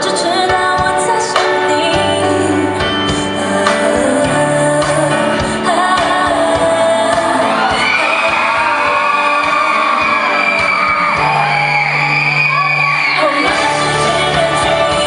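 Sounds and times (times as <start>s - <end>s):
person singing: 0.0s - 11.7s, 12.8s - 15.0s.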